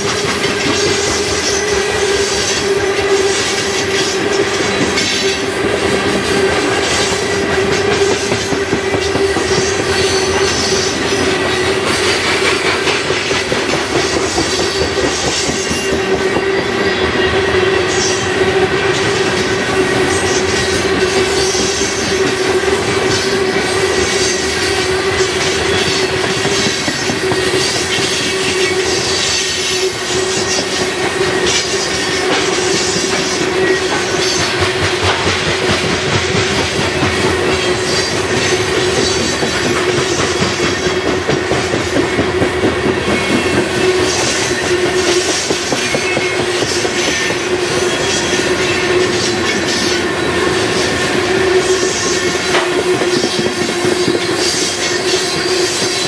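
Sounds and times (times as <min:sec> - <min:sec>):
steady wheel and rail tone: 0:00.0 - 0:56.0
train wheels clickety-clack: 0:00.0 - 0:56.0.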